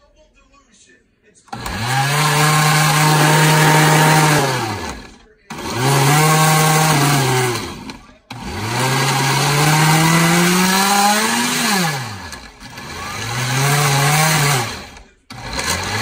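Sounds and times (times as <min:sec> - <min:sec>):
blender motor crushing frozen fruit: 0:01.5 - 0:16.0.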